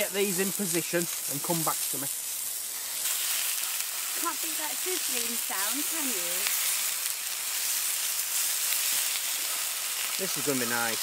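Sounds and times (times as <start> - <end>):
sausages and bacon sizzling: 0.0 - 11.0.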